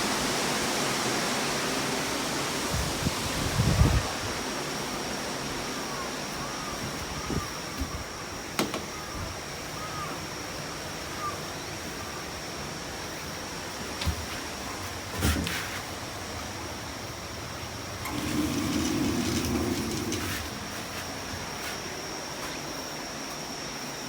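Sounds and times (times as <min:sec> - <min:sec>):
wind and rain rushing: 0:00.0 - 0:09.7, 0:10.7 - 0:21.5.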